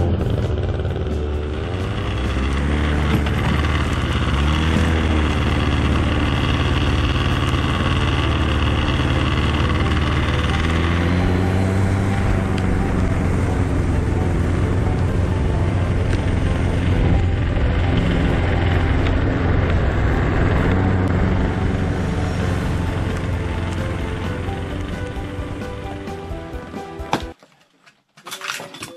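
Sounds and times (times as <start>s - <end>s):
snowmobile engine running: 0.0s - 26.8s.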